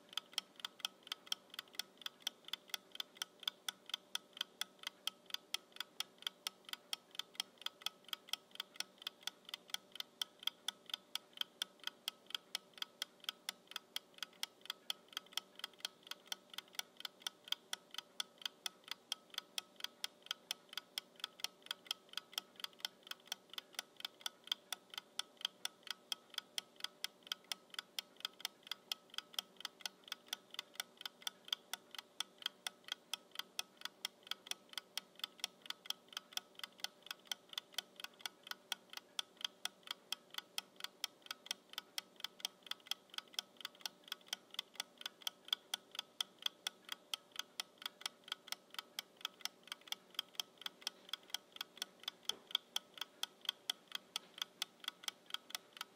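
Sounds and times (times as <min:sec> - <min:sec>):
kitchen timer ticking: 0:00.0 - 0:55.9.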